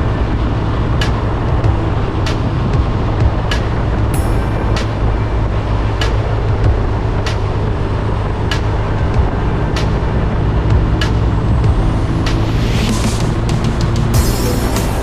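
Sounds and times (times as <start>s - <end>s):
motorcycle engine rumble: 0.0s - 15.0s.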